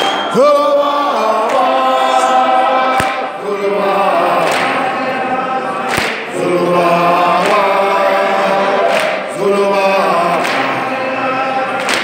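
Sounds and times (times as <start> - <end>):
crowd singing without instruments: 0.0 - 12.0.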